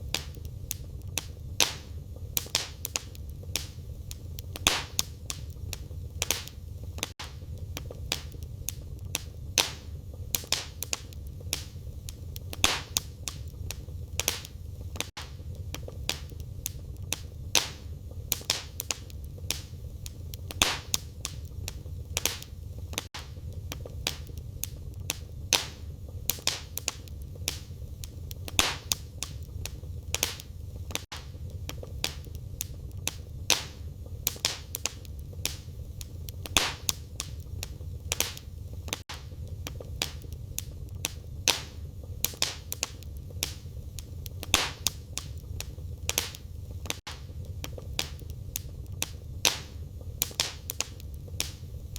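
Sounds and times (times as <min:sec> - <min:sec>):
firewood crackling and popping: 0:00.0 - 0:51.9
low rumble of flames: 0:00.0 - 0:51.9.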